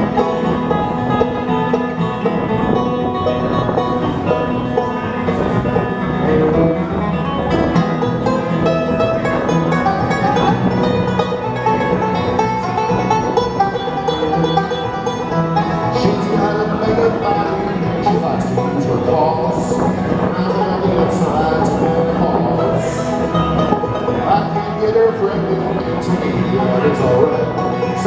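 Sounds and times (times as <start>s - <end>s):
bluegrass band playing: 0.0s - 28.0s.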